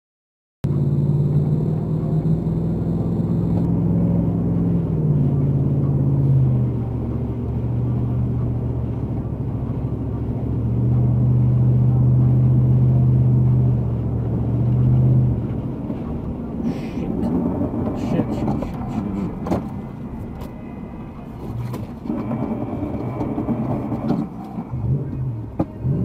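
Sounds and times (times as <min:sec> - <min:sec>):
truck engine drone: 0:00.6 - 0:26.0.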